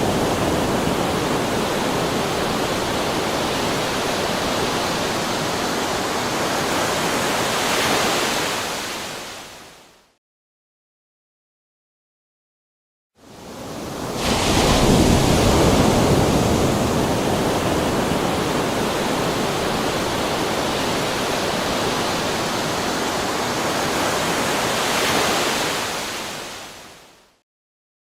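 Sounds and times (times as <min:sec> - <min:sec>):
ocean waves breaking: 0:00.0 - 0:09.6, 0:13.3 - 0:26.9.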